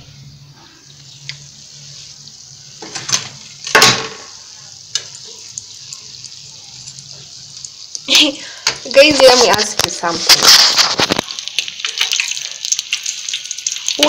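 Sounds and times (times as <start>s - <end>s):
oil sizzling while deep-frying: 0.0s - 14.0s.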